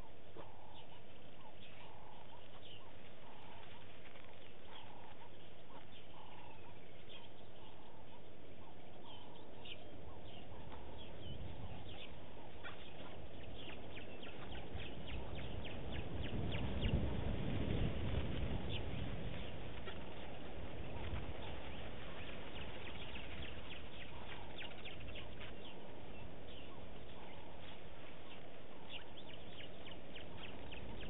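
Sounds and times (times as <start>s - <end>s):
birds chirping and whistling: 0.0s - 31.0s
low bird call: 0.0s - 31.0s
low rumble: 0.0s - 31.0s.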